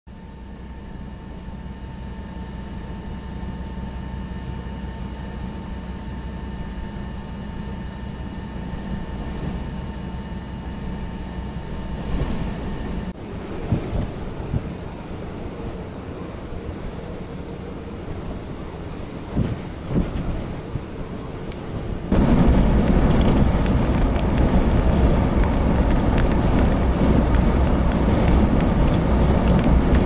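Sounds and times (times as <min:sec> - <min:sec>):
faint vehicle whine: 0:00.1 - 0:30.0
blizzard wind against vehicle: 0:00.2 - 0:30.0
gusting wind on microphone: 0:00.3 - 0:30.0.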